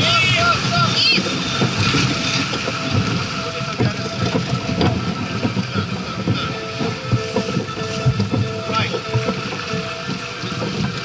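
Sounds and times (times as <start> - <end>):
water rushing past hull: 0.0 - 11.0
wind on microphone: 0.0 - 11.0.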